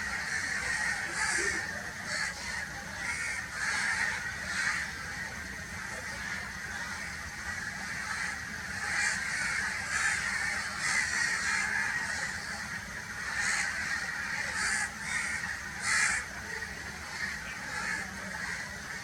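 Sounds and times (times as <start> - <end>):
crows cawing: 0.0 - 5.1, 6.0 - 19.0.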